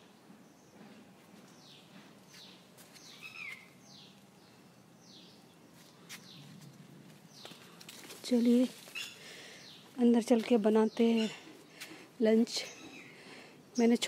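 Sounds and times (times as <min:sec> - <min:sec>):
bird chirping: 0:00.0 - 0:06.7, 0:07.3 - 0:14.0.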